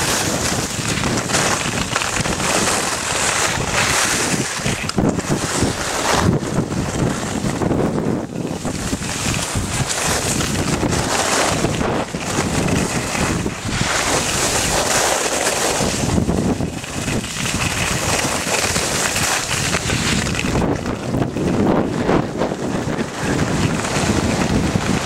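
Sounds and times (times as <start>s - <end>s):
skis scraping on hard snow: 0.0s - 25.0s
wind buffeting microphone: 0.0s - 25.0s.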